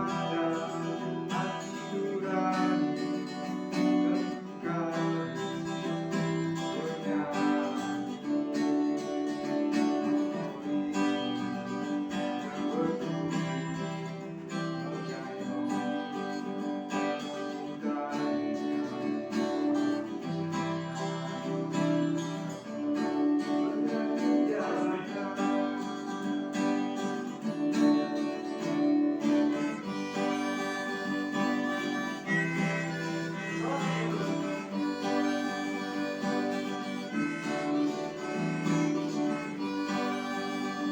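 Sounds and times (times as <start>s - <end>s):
acoustic guitar instrumental music: 0.0s - 40.9s.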